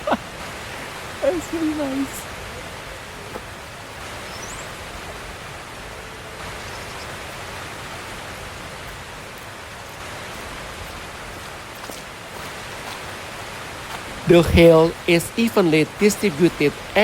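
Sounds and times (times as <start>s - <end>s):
hail and rain falling: 0.0s - 17.0s.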